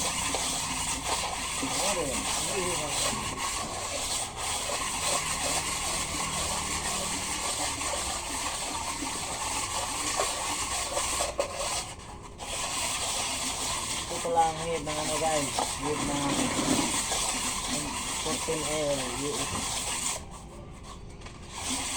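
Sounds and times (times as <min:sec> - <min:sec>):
grainy rubbing on metal: 0:00.0 - 0:21.9.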